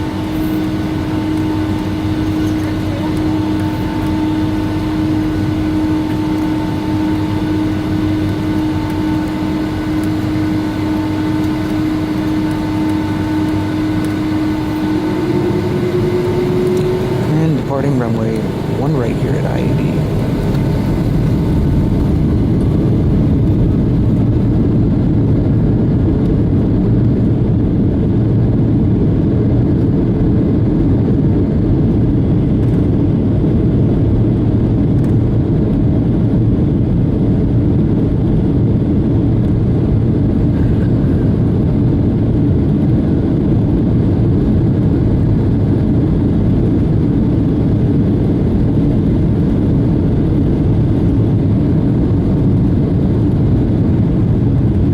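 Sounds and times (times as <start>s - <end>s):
jet engines roaring in cabin: 0.0s - 54.9s.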